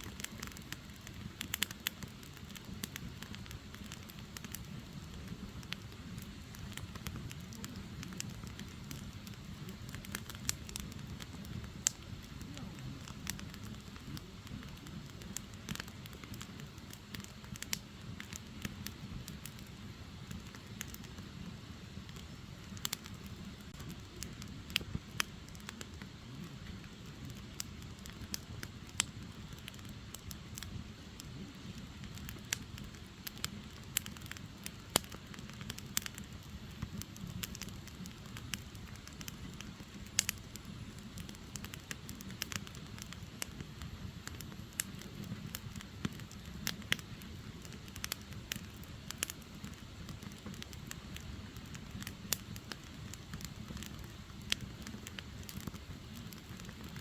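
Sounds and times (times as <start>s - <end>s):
firewood popping and crackling: 0.0s - 57.0s
low rumble of flames: 0.0s - 57.0s.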